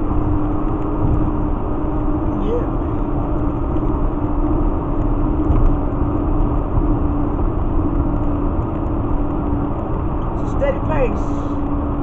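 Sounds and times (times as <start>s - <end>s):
vehicle cabin road and engine noise: 0.0s - 12.0s.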